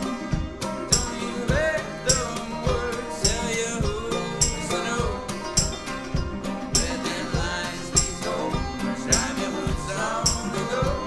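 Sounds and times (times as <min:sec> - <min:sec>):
acoustic guitars: 0:00.0 - 0:11.0
banjo: 0:00.0 - 0:11.0.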